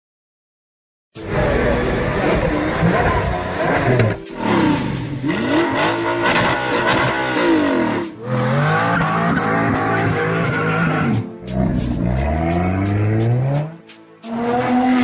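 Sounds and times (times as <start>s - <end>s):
another supercar engine revving: 1.2s - 15.0s
sports car engine revving: 1.2s - 15.0s.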